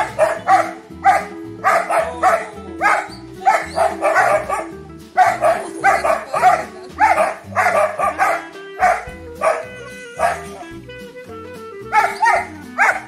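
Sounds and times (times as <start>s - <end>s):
dogs barking: 0.0s - 10.8s, 11.8s - 13.0s
background music: 0.0s - 13.0s.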